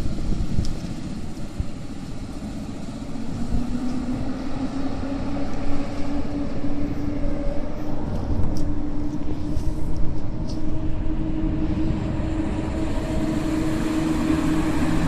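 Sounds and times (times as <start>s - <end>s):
electric train rumbling: 0.0s - 15.0s
train motor whine rising: 1.8s - 15.0s.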